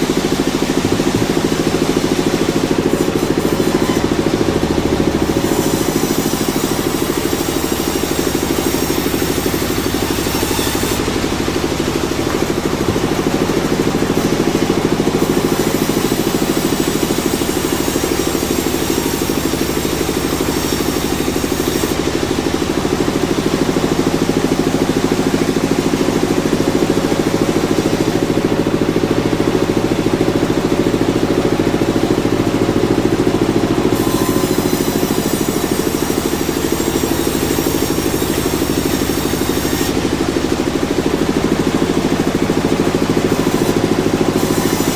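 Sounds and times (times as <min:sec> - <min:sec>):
sawmill machinery drone: 0:00.0 - 0:44.9.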